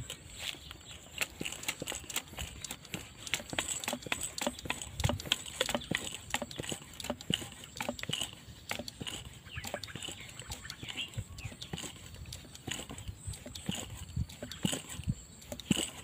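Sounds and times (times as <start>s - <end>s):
animal caller clicks and chirps: 0.0s - 16.0s.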